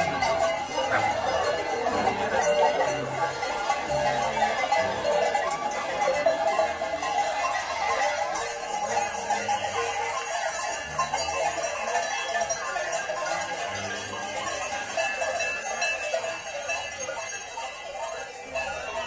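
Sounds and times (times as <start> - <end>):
animal bells clanking: 0.0 - 19.0
crowd chatter: 0.0 - 19.0.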